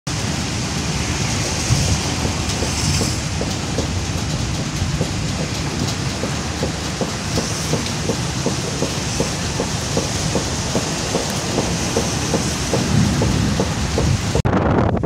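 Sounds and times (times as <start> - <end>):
heavy rain falling: 0.1 - 14.5
wind buffeting microphone: 0.1 - 15.0.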